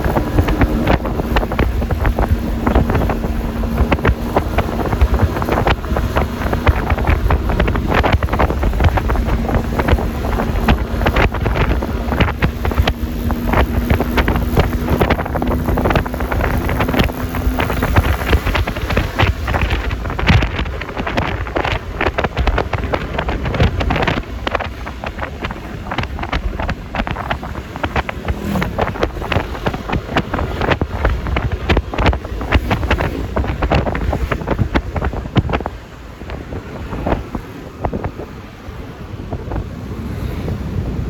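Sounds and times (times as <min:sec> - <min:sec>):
scooter engine and road noise: 0:00.0 - 0:41.0
wind buffeting microphone: 0:00.0 - 0:41.0.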